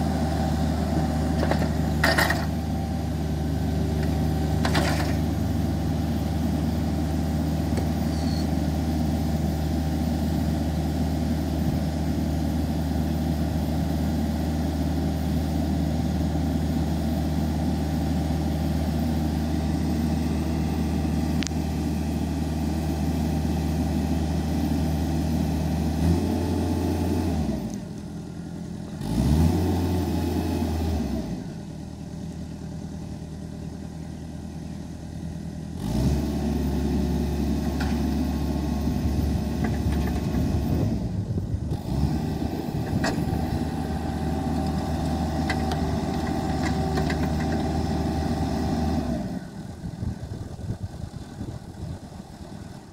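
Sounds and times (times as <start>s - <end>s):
mower engine running: 0.0s - 52.9s.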